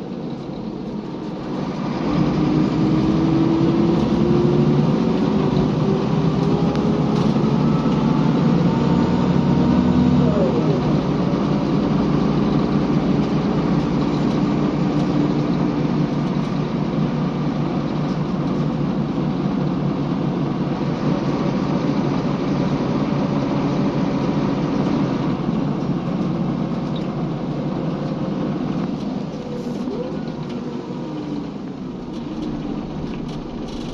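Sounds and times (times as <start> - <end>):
bus engine and road noise: 0.0 - 33.9.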